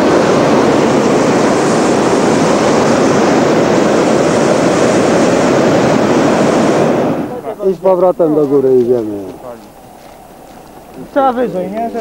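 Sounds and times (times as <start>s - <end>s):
propane burner roaring: 0.0s - 12.0s.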